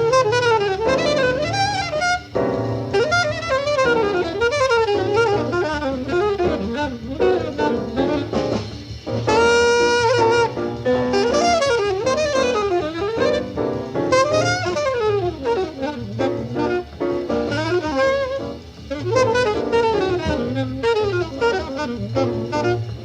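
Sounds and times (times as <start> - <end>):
bass and drums: 0.0 - 23.0
horn solo: 0.0 - 23.0.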